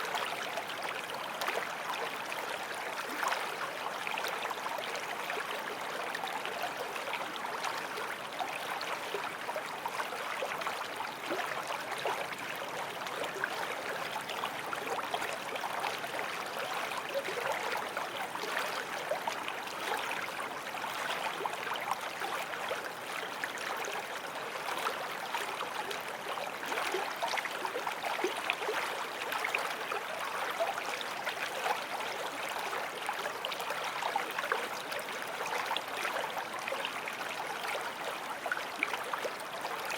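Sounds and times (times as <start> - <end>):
creek water over stones: 0.0 - 39.9.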